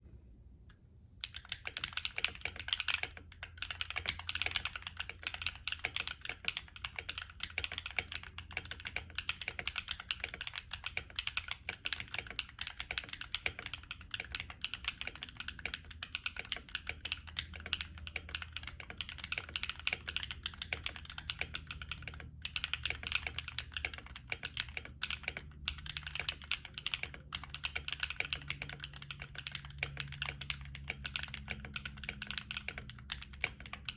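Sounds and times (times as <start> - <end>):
mechanical keyboard typing: 1.2 - 33.9.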